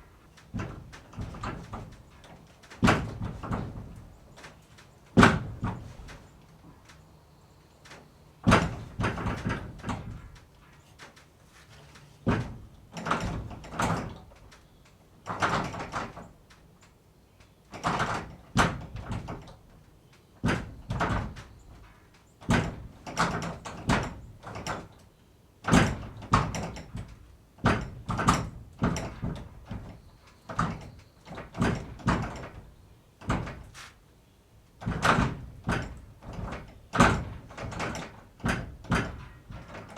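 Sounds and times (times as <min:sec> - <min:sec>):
barn door banging and rattling: 0:00.0 - 0:07.0, 0:07.8 - 0:16.7, 0:17.7 - 0:34.0, 0:34.6 - 0:39.9.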